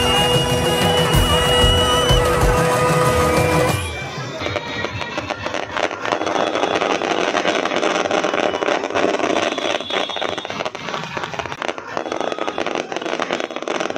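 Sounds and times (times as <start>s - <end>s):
fireworks crackling: 0.0s - 13.9s.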